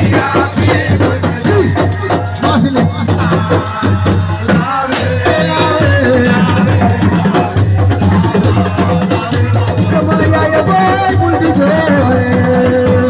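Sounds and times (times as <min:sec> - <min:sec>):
drums and percussion beat: 0:00.0 - 0:13.0
person singing: 0:00.0 - 0:13.0.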